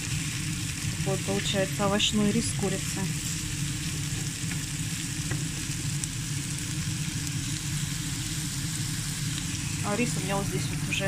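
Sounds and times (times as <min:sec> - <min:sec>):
steady low hum: 0:00.0 - 0:11.0
vegetables sizzling in oil: 0:00.0 - 0:11.0.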